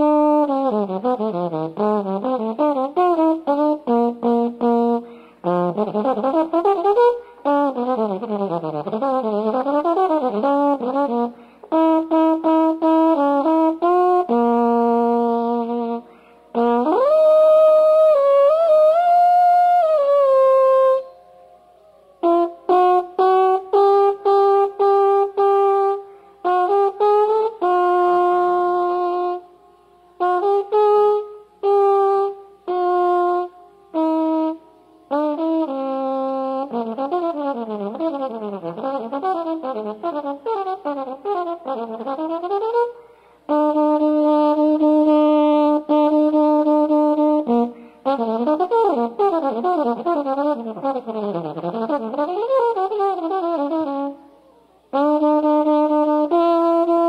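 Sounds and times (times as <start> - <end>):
jazz trombone solo: 0.0 - 21.2, 22.2 - 57.0.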